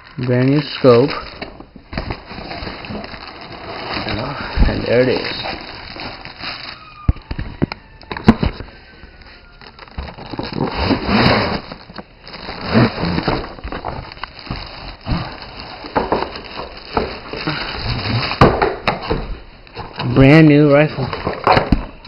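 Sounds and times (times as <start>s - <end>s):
packaging rustling and crinkling: 0.0s - 22.0s.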